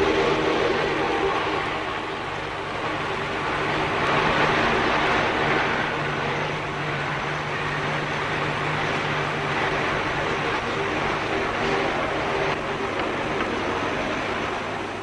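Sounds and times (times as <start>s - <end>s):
low steady hum: 0.0s - 15.0s
turboprop engine drone: 0.0s - 15.0s.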